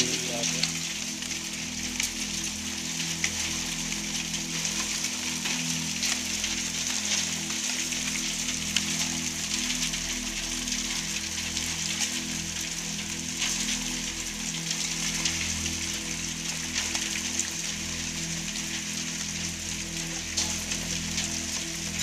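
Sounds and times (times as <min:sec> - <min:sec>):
heavy rain and hail on concrete: 0:00.0 - 0:22.0.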